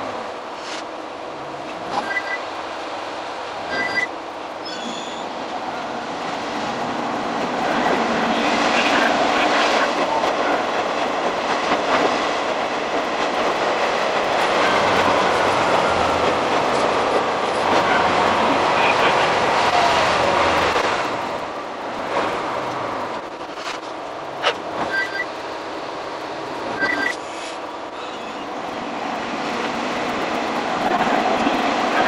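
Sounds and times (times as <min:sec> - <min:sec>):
diesel railcar running: 0:00.0 - 0:32.0.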